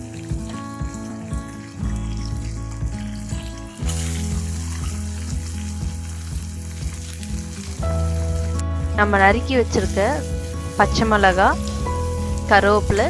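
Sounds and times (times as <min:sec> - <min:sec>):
background music: 0:00.0 - 0:13.0
onion sizzling in hot oil: 0:00.0 - 0:13.0.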